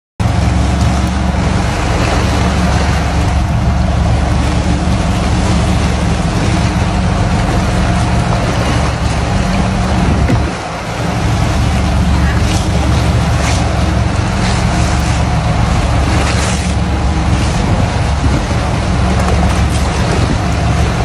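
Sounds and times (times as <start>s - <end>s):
motorboat engine running: 0.2s - 21.0s
water rushing along hull: 0.2s - 21.0s.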